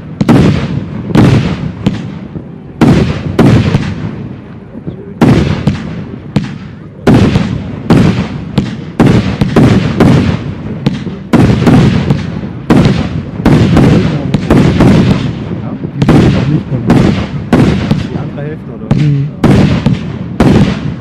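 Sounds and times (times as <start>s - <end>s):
fireworks bangs echoing: 0.0s - 21.0s.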